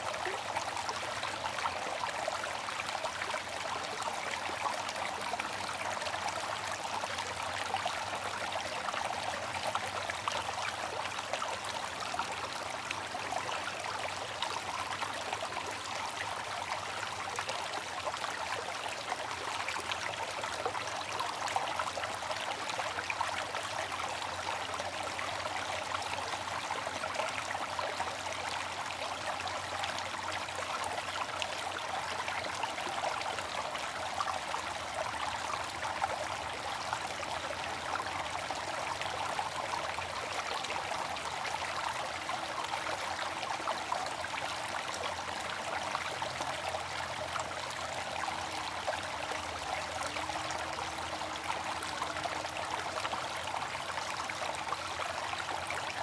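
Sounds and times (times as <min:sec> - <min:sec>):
fountain water trickling: 0:00.0 - 0:56.0.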